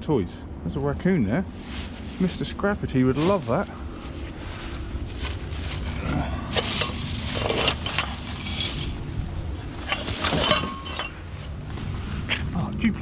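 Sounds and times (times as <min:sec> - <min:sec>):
steady low hum: 0:00.0 - 0:13.0
plastic bags rustling: 0:01.5 - 0:12.3.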